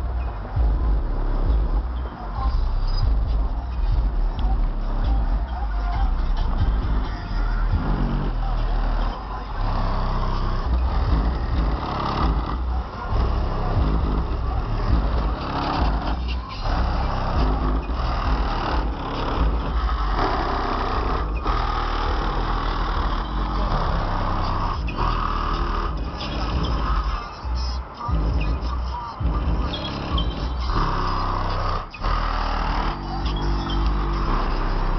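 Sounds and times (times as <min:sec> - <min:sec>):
subwoofer pulsing bass: 0:00.0 - 0:34.9.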